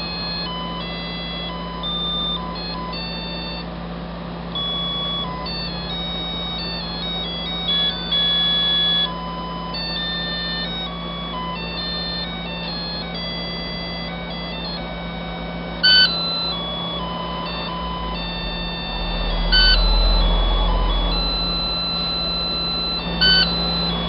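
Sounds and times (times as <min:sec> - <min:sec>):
alarm clock beeping melody: 0:00.0 - 0:03.8, 0:04.4 - 0:24.0.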